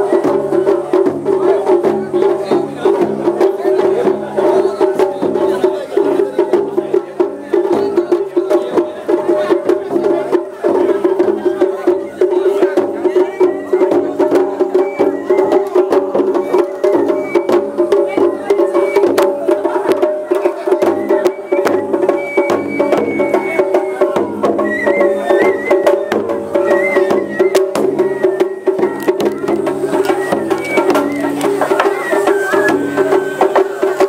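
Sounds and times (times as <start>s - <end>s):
taiko drum strikes: 0.0s - 34.0s.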